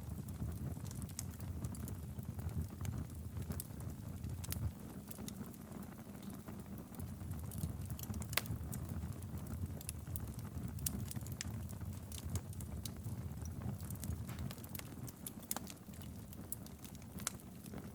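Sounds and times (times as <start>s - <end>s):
fire crackling and popping: 0.0s - 17.9s
flames rumbling: 0.0s - 17.9s.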